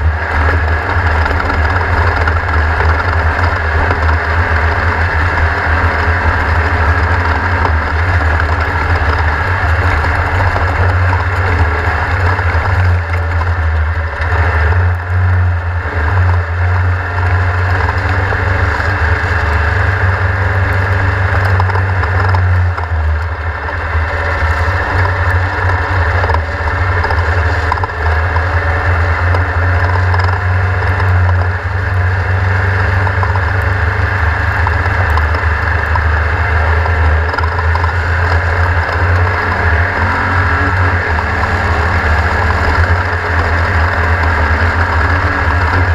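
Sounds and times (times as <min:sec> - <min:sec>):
car rattling: 0:00.0 - 0:45.9
engine droning under load: 0:00.0 - 0:45.9.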